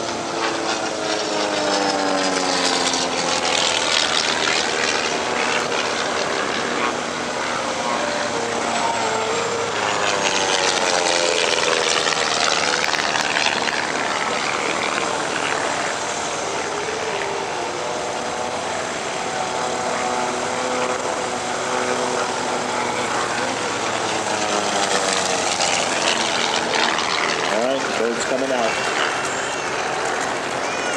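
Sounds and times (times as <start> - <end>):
radial piston engines running: 0.0 - 30.9.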